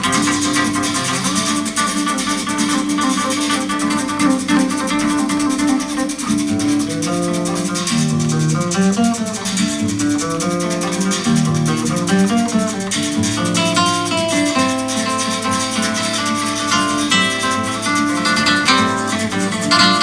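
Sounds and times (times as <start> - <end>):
guitar music with shaker rhythm: 0.0 - 20.0.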